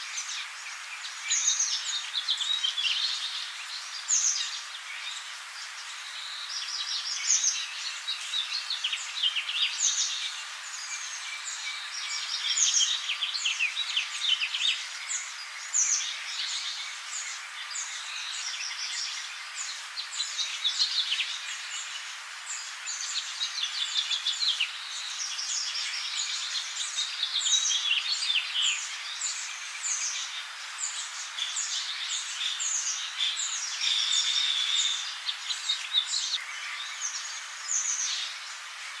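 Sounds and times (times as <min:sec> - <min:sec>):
many small birds chirping: 0:00.0 - 0:39.0.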